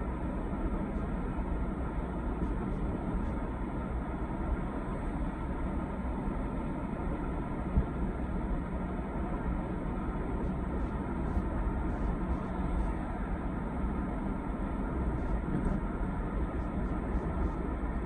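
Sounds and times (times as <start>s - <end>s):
car driving heard from cabin: 0.0s - 18.0s.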